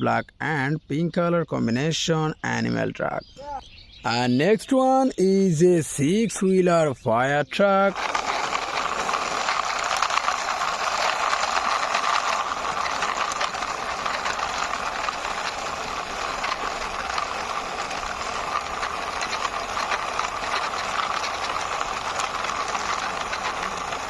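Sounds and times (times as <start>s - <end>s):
toy truck wheels rolling and rattling: 4.1s - 24.0s.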